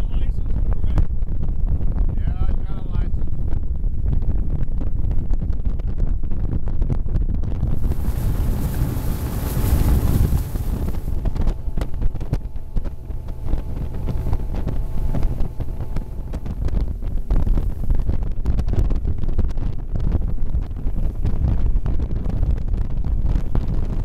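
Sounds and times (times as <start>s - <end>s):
boat hull on choppy water: 0.0s - 24.0s
outboard motor: 0.0s - 24.0s
wind buffeting microphone: 0.0s - 24.0s.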